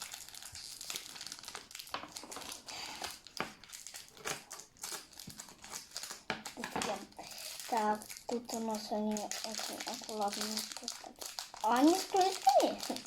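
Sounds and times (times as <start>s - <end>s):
packaging crinkling and rustling: 0.0s - 13.0s
small crackles and clicks: 0.0s - 13.0s.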